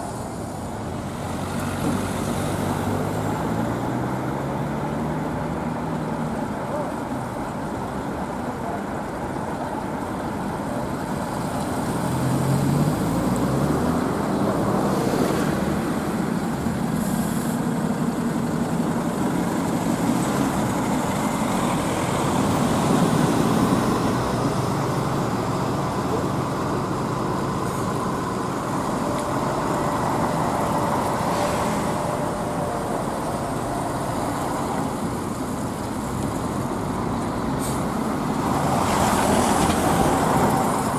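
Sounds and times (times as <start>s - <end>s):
diesel bus engines running: 0.0s - 40.9s.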